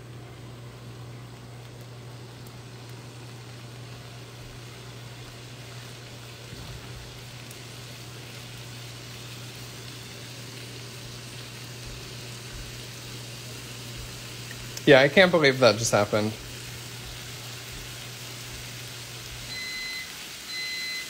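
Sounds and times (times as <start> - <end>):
steady low hum: 0.0 - 19.9
shrimp sizzling in a pan: 0.0 - 21.0.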